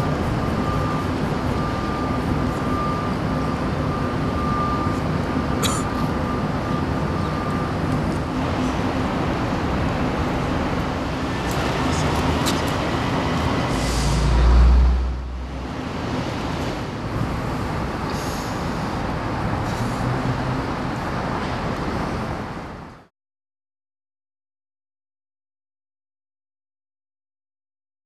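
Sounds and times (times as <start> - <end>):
street traffic noise: 0.0 - 23.1.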